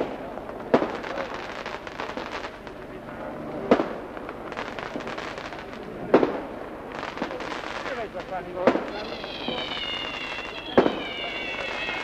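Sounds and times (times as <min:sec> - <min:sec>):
firecracker bangs: 0:00.0 - 0:02.8, 0:03.6 - 0:12.0
small firecracker cracks: 0:00.0 - 0:02.8, 0:03.6 - 0:12.0
crowd hubbub: 0:00.0 - 0:12.0.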